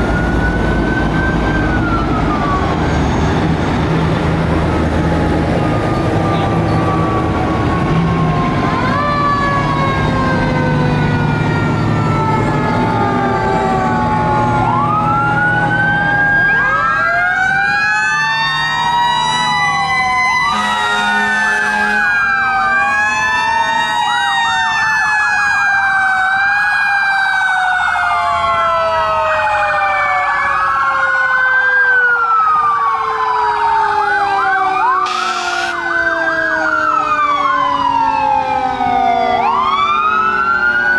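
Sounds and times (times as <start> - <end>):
mechanical siren winding down: 0.0 - 40.9
sirens wailing: 0.0 - 40.9.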